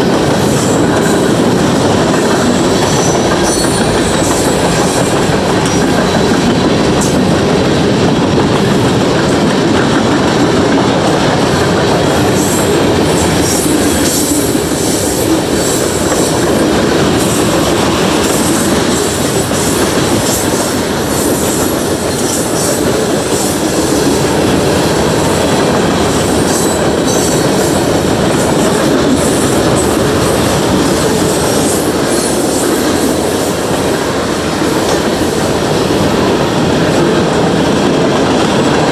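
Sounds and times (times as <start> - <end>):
freight train rolling past: 0.0 - 38.9
wheels clicking on rail: 0.0 - 38.9.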